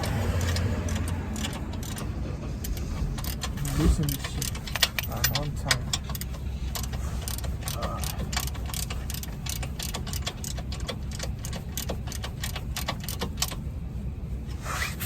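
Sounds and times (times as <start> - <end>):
socket wrench ratchet clicking: 0.0 - 13.6.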